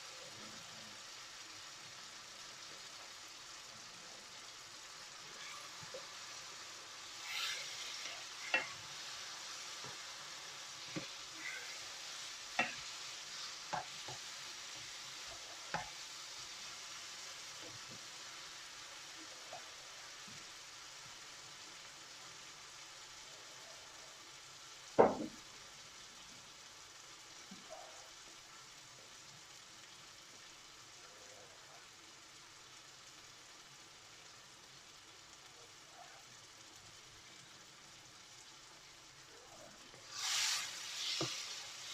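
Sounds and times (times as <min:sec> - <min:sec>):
curry sizzling in a pan: 0:00.0 - 0:41.9.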